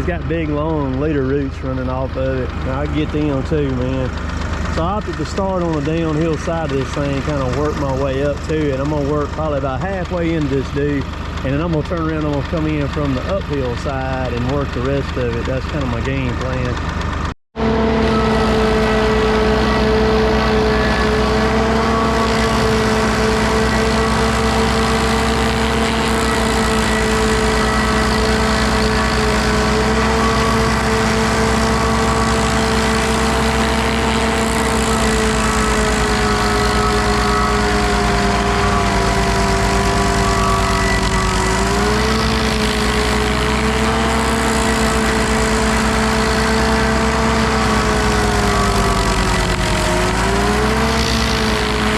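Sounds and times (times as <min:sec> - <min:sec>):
work machine engine running: 0:00.0 - 0:51.9.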